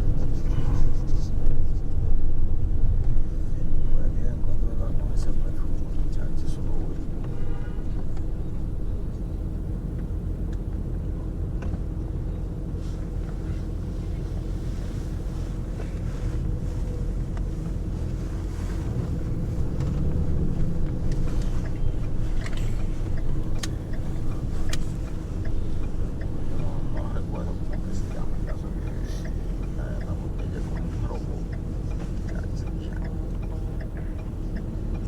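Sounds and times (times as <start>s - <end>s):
faint steady drone: 0.0s - 35.0s
road noise: 0.0s - 35.0s
vehicle engine rumble: 0.0s - 35.0s.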